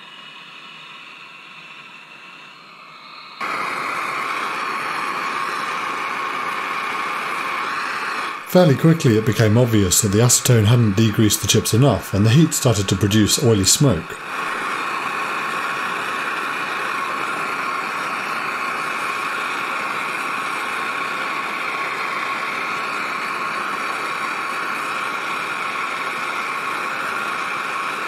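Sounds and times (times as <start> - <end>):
gas torch flame hissing: 0.0 - 28.0.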